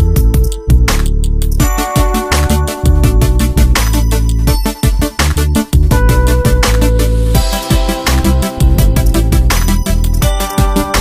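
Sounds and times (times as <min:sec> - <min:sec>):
loud music with heavy bass and beat: 0:00.0 - 0:11.0.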